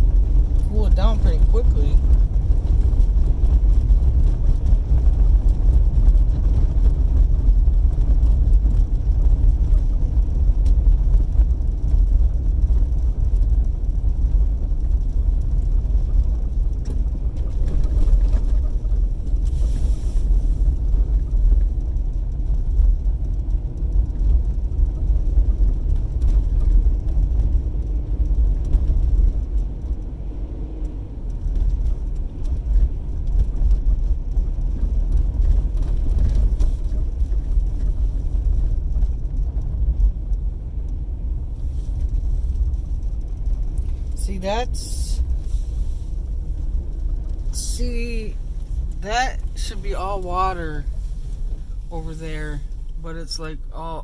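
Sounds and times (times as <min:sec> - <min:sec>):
road and engine rumble in car: 0:00.0 - 0:54.0.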